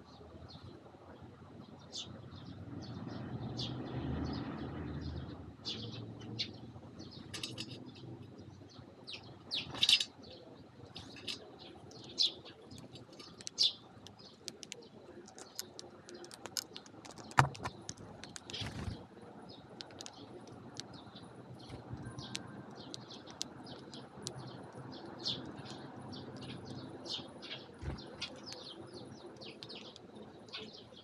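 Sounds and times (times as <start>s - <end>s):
sparrows chirping: 0.0s - 31.0s.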